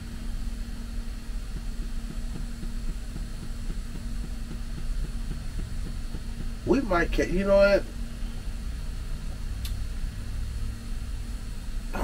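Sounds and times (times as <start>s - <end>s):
low hum with rapid throbbing: 0.0s - 12.0s.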